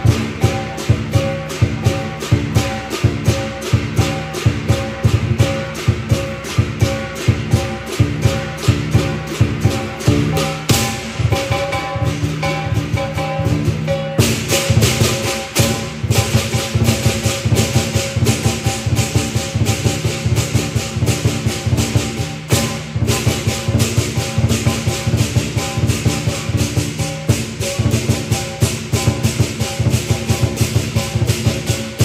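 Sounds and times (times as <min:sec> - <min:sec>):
big drum beaten fast: 0:00.0 - 0:32.0
crashing cymbals: 0:00.0 - 0:32.0
ringing gong: 0:00.0 - 0:32.0.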